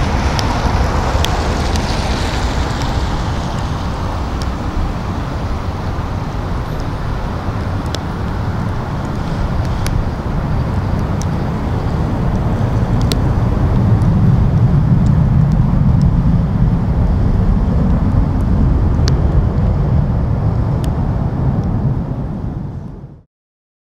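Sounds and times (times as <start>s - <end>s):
jet engine rumble: 0.0s - 23.3s.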